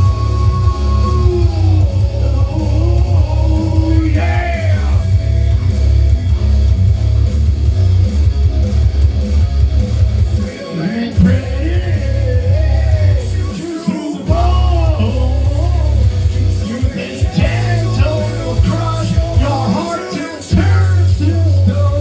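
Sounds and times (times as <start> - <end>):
heavy rock instrumental: 0.0 - 22.0.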